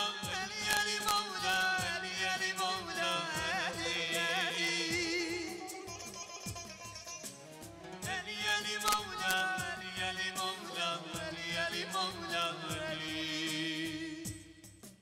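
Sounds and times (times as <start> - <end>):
men singing a hymn: 0.0 - 5.8, 8.0 - 14.5
backing music with drum beat: 0.0 - 15.0.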